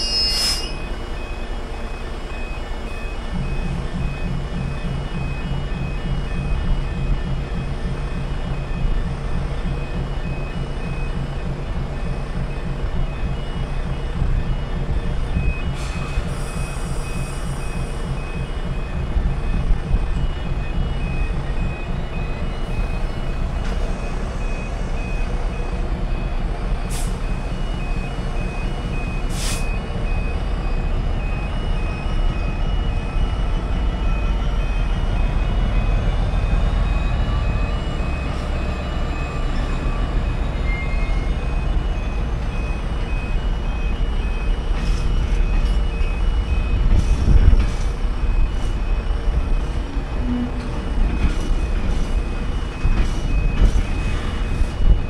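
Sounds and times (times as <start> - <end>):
crossing alarm beeping: 0.0 - 55.0
freight train rumbling and clattering: 0.0 - 55.0.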